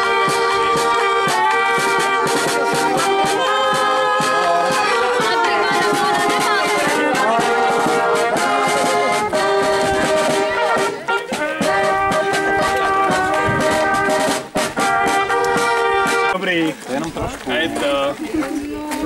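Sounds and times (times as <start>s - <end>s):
brass band playing: 0.0s - 16.7s.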